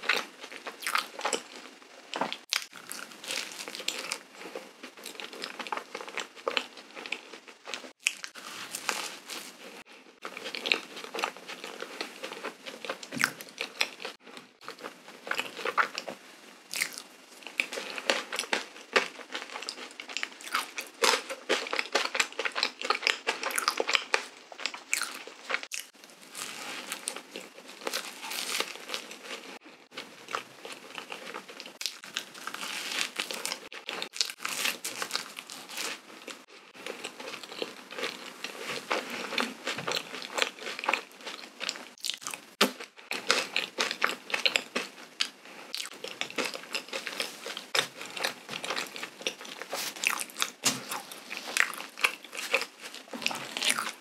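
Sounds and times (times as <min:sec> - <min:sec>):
wet chewing mouth sounds: 0:02.2 - 0:54.0.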